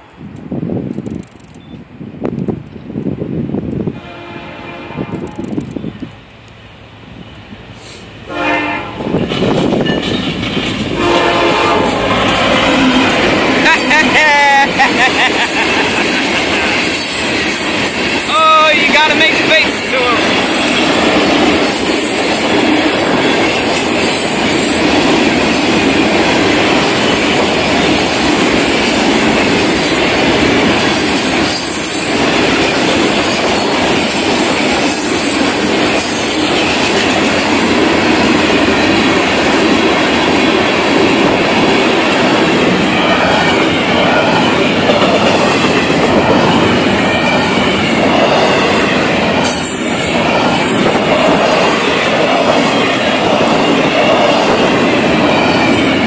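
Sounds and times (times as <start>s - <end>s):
steel wheels rumbling on rails: 0.0s - 56.0s.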